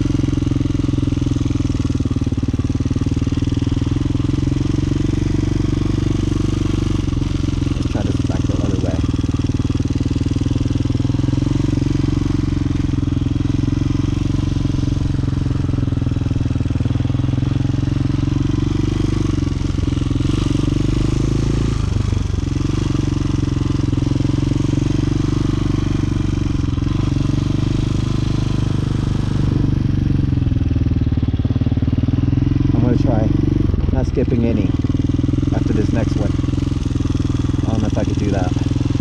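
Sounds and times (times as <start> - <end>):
motorcycle engine at low revs: 0.0 - 39.0.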